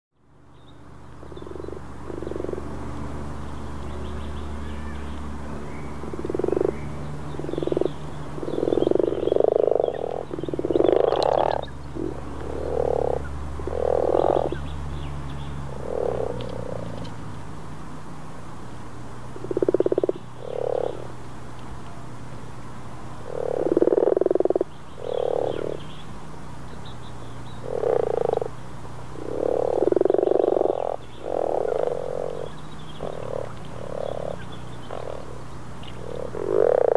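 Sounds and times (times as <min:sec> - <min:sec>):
frogs croaking: 0:00.2 - 0:17.2, 0:19.3 - 0:21.4, 0:22.4 - 0:36.9
steady low hum: 0:00.2 - 0:36.9.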